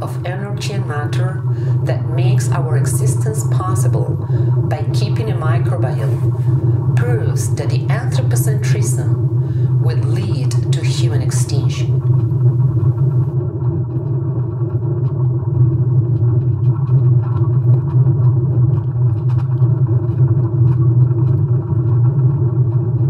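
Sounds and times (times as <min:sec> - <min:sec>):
loud low rumbling drone: 0:00.0 - 0:23.0.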